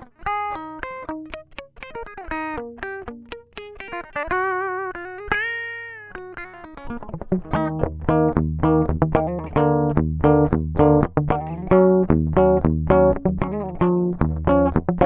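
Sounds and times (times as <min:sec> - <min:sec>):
electric guitar plucked notes: 0:00.0 - 0:15.0.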